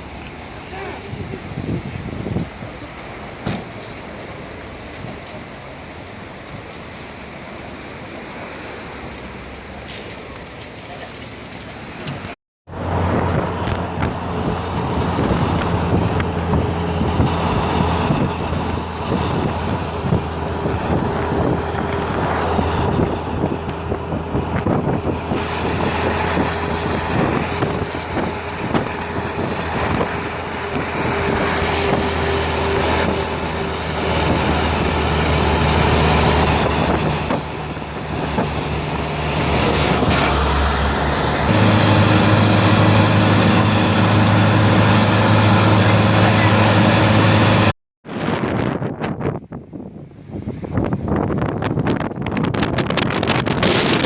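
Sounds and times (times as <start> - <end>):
bus engine hum: 0.0 - 47.8.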